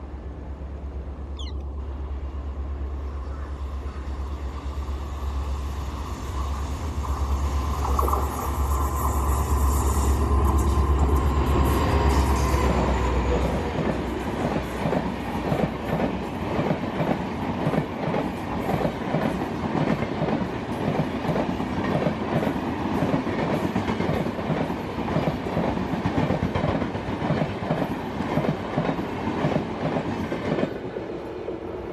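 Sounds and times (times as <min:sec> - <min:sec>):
rumble and rush of passing train: 0:00.0 - 0:31.9.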